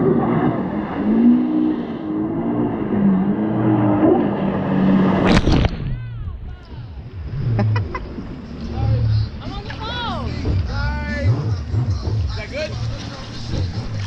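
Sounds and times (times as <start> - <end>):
jet ski engine running: 0.0 - 5.3, 6.8 - 14.0.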